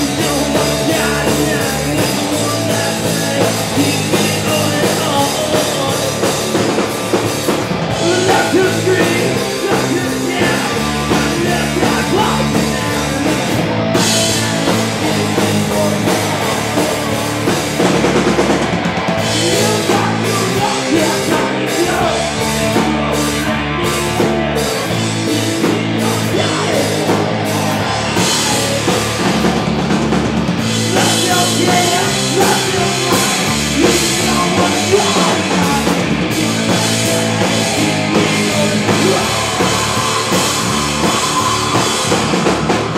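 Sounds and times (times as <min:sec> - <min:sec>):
man singing: 0:00.0 - 0:18.2, 0:19.2 - 0:42.9
rock band playing live: 0:00.0 - 0:42.9.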